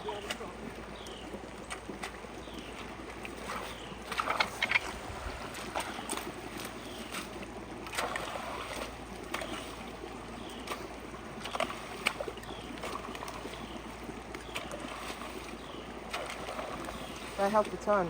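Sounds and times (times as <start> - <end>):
creek water running and splashing: 0.0 - 18.0.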